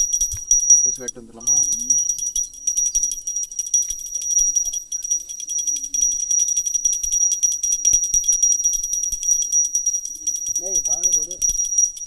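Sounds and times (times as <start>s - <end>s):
hand bell rung rapidly: 0.0s - 12.0s.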